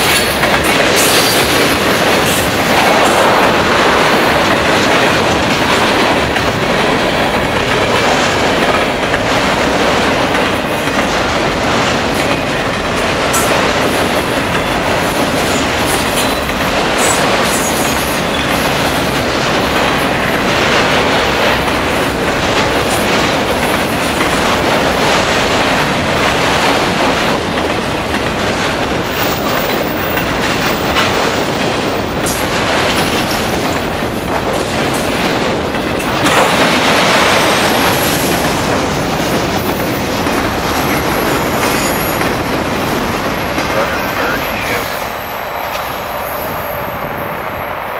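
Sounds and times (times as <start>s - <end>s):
train wheels rumbling over rail joints: 0.0s - 47.9s.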